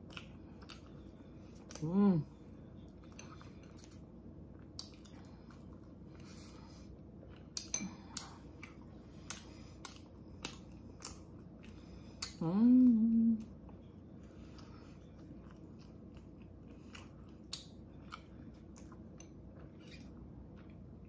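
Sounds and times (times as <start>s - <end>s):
chewing with lip smacks: 0.0s - 12.4s, 13.4s - 21.0s.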